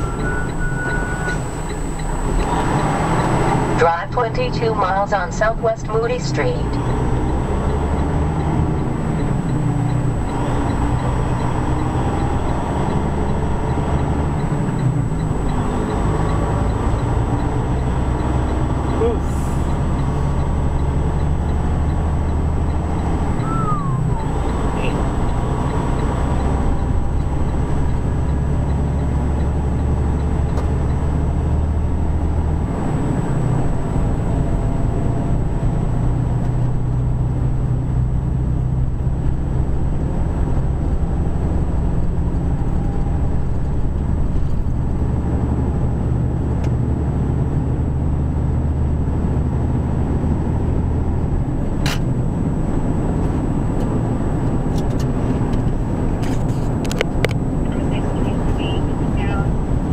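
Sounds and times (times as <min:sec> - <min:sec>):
truck engine drone in cab: 0:00.0 - 0:59.9.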